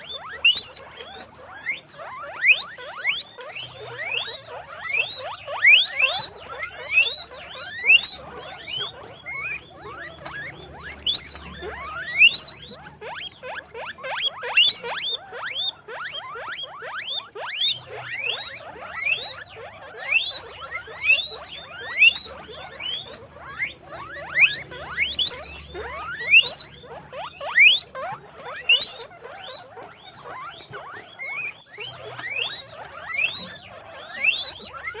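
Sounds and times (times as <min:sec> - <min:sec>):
guinea pigs squealing: 0:00.0 - 0:35.0.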